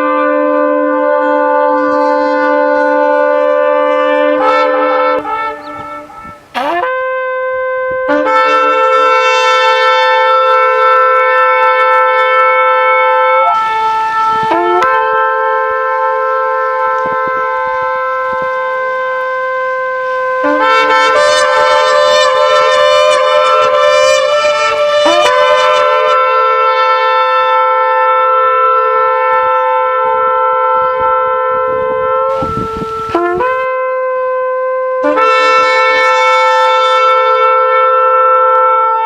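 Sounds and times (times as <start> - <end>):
ram's horn blasts: 0.0 - 39.0.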